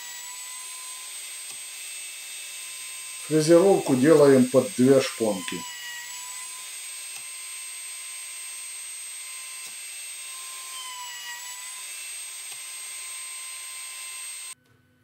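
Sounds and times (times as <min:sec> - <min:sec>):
wood router high whine: 0:00.0 - 0:14.6.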